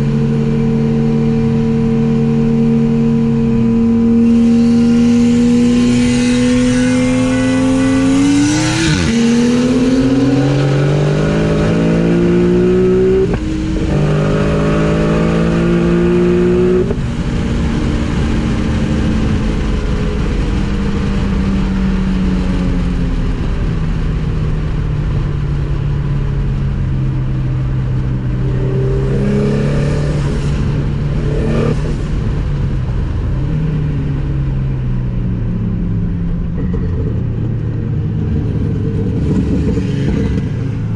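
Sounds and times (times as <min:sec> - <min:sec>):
car engine accelerating hard: 0:00.0 - 0:26.1, 0:27.8 - 0:34.9.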